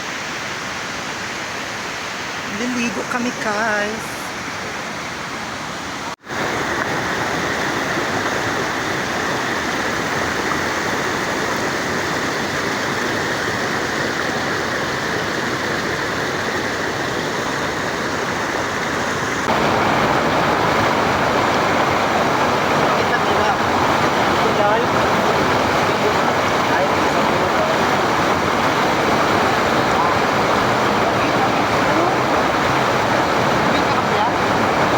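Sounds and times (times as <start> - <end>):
rushing river water: 0.0 - 34.9.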